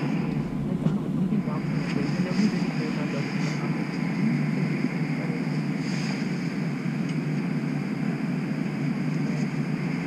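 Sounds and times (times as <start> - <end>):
low hum and hiss inside streetcar: 0.0 - 10.0.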